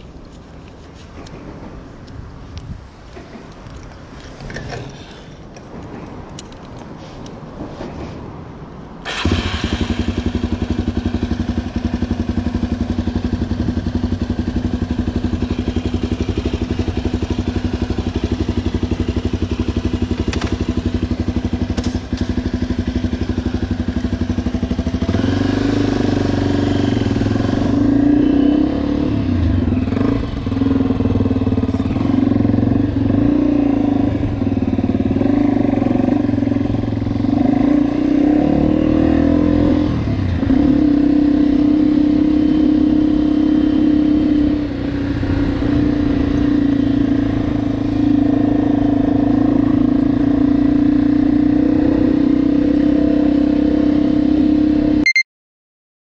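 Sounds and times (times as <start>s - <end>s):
motorcycle revving and pulling away: 9.0s - 55.0s.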